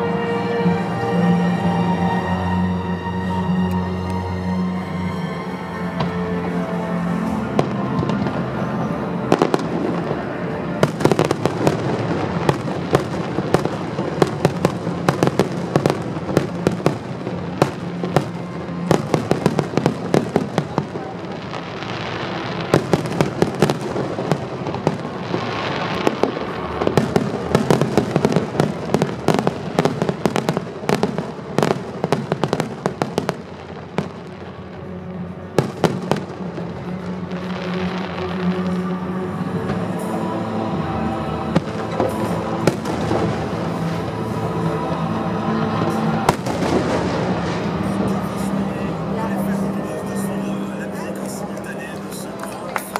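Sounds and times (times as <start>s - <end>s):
music playing: 0.0s - 52.9s.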